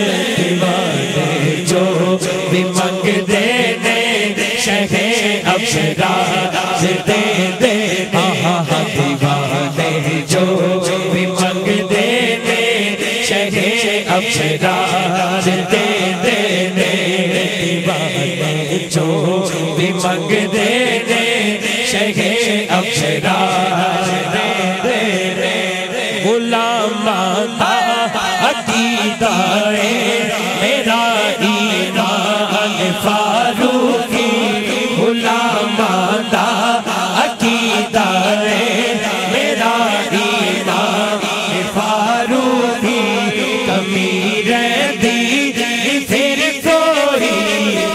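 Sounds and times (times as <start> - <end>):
group of men chanting: 0.0 - 47.9
man singing into a microphone: 0.0 - 47.9.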